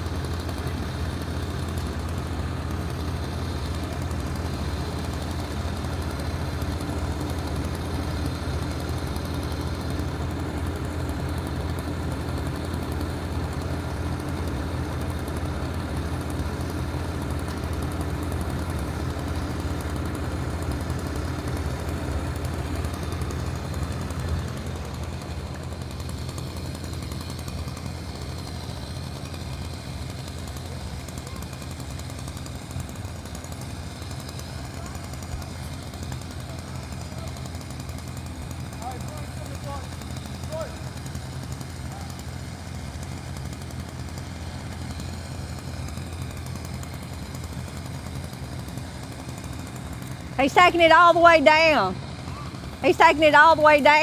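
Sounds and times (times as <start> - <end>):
tree-removal machinery droning: 0.0 - 54.0.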